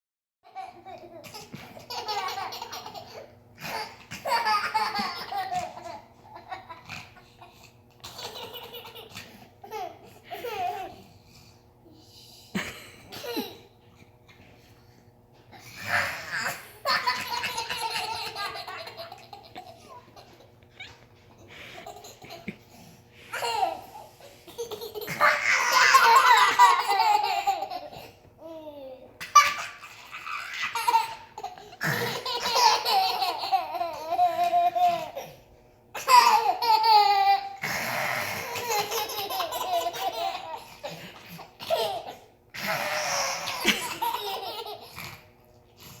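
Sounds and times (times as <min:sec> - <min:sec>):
young child laughing: 0:00.5 - 0:11.1, 0:12.6 - 0:13.7, 0:15.8 - 0:22.7, 0:23.3 - 0:35.4, 0:36.0 - 0:45.0.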